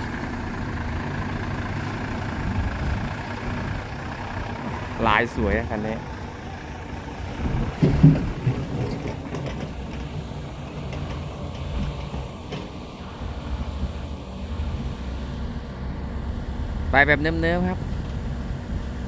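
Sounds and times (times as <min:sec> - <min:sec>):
diesel engine running: 0:00.0 - 0:19.0
engine knock: 0:00.0 - 0:19.0.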